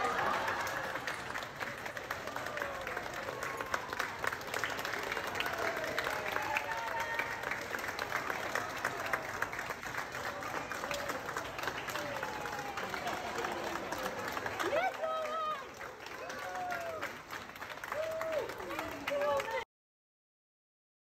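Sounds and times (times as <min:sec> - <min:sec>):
crowd clapping: 0:00.0 - 0:19.7.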